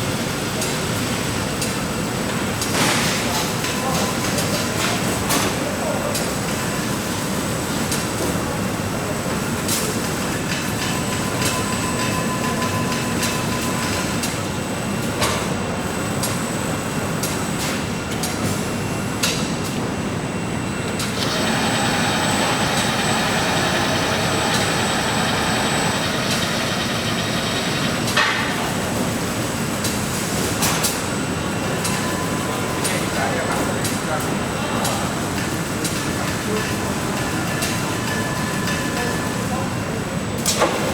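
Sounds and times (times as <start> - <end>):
factory machinery noise: 0.0 - 40.9
higher busier machine noise: 0.0 - 40.9.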